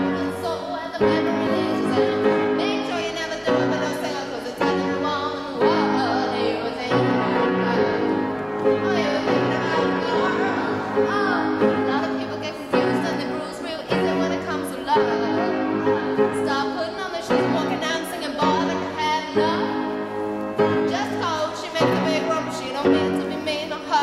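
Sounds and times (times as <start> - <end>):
sustained chords: 0.0 - 23.4.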